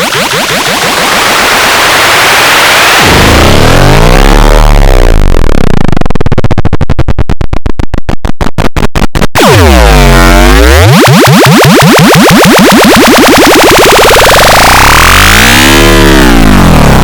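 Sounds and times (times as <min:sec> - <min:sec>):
rapid stuttering pulse: 0:00.0 - 0:17.0
distorted sweeping tone: 0:00.1 - 0:17.0.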